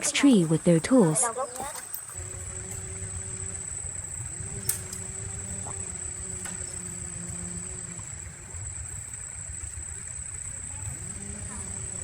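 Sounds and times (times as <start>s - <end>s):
high-pitched insect drone: 1.2s - 12.0s
low background rumble: 2.2s - 12.0s.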